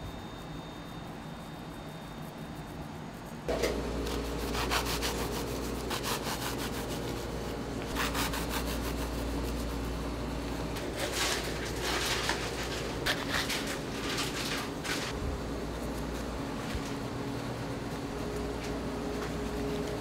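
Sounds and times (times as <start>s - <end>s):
kitchen machinery humming: 3.4s - 20.0s.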